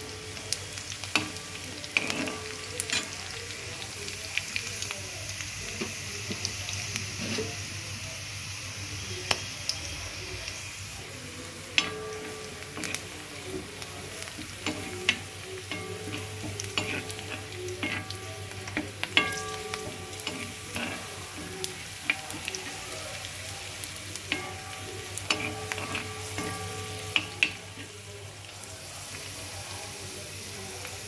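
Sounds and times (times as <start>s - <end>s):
onions frying in hot oil: 0.0s - 31.0s.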